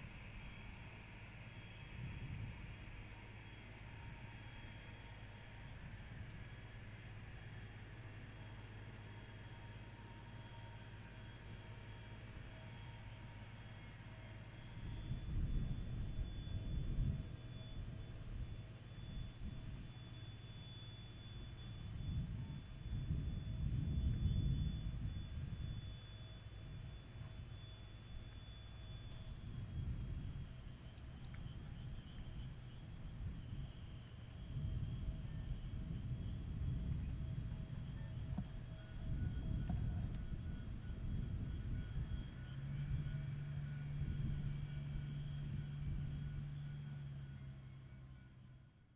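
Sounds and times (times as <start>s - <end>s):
cricket chirping: 0.0s - 48.9s
faint hum: 0.0s - 48.9s.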